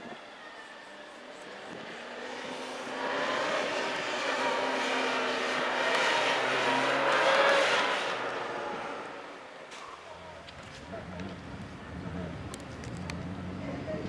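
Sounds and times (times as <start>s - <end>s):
motorcycle engine revving: 1.7s - 9.4s, 10.2s - 14.0s.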